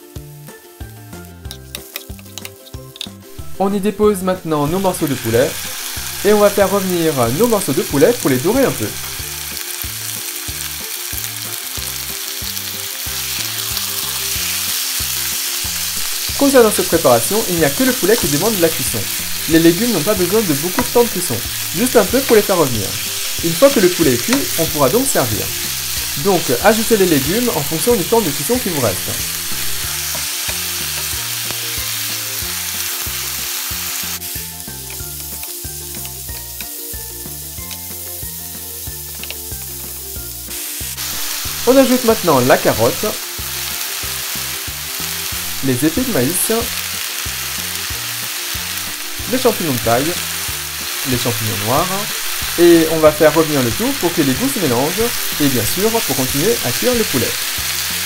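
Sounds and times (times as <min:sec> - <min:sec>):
background music with low notes: 0:00.0 - 0:58.0
chicken sizzling in hot oil: 0:00.0 - 0:58.0.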